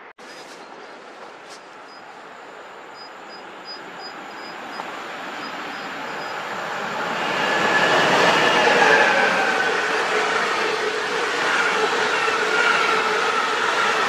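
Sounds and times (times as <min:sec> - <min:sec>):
high train whine: 0:00.0 - 0:14.0
train rolling noise: 0:00.0 - 0:14.0.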